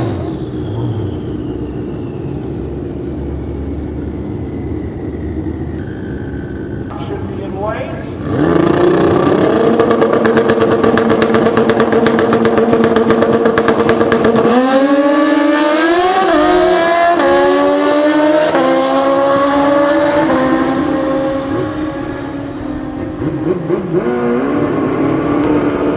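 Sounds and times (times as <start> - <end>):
engine crackle: 0.0 - 25.9
motorcycle engines revving: 0.0 - 25.9.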